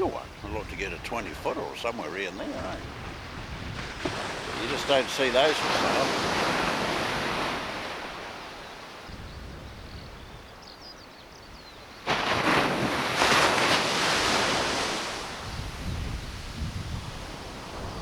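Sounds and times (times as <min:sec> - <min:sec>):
waves breaking on beach: 0:00.0 - 0:09.1, 0:11.8 - 0:18.0.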